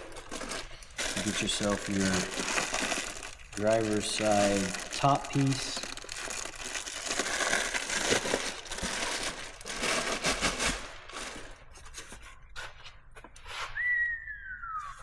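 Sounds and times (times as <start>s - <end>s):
plastic packaging rustling: 0.0s - 12.3s.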